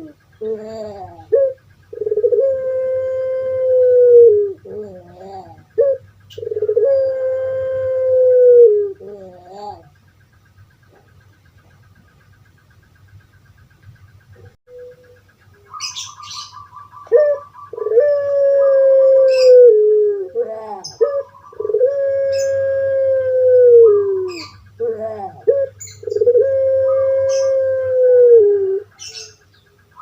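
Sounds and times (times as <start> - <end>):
dove cooing: 0.0 - 11.9, 14.4 - 30.0.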